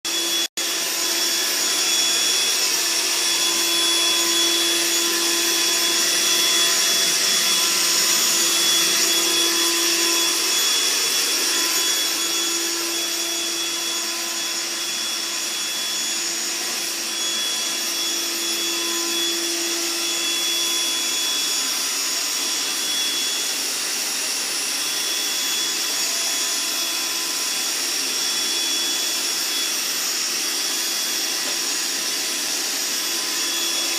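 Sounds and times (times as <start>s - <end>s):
vacuum cleaner running: 0.1s - 33.9s.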